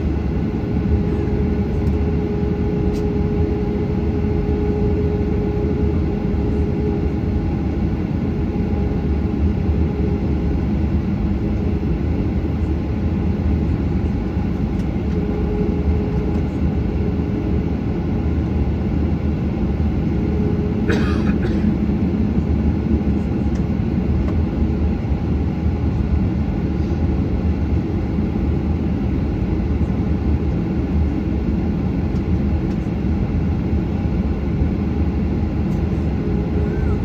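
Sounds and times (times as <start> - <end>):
airplane cabin engine noise: 0.0 - 37.0.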